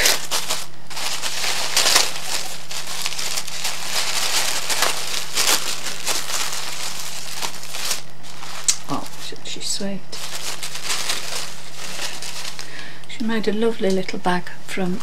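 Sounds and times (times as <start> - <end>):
tissue paper crinkling: 0.0 - 12.9.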